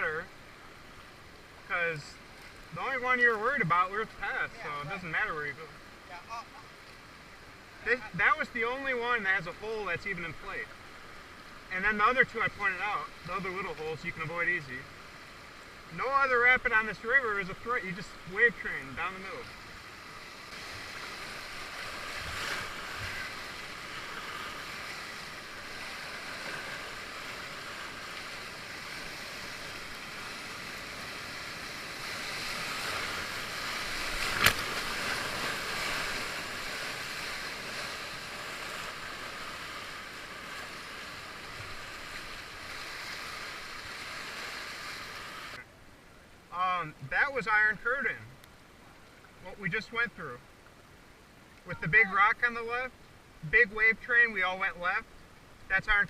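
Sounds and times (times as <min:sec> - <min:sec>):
whitewater rushing and splashing: 0:00.0 - 0:56.0.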